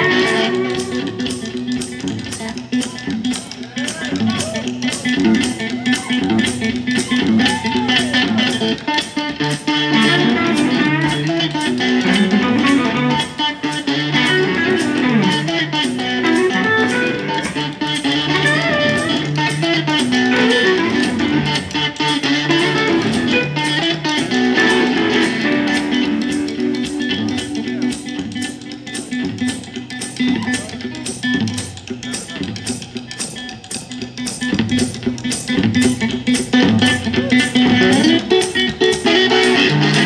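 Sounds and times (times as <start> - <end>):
baritone guitar: 0.0 - 40.0
drums: 0.0 - 40.0
electric guitar lead: 0.0 - 40.0.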